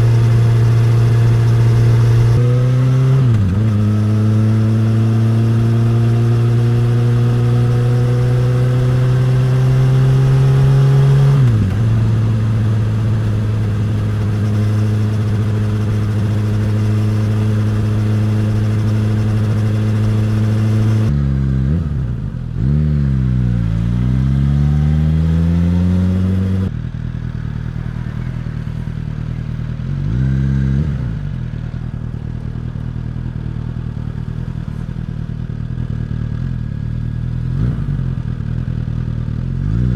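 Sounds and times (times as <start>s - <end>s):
motorcycle engine and exhaust revving: 0.0s - 39.9s.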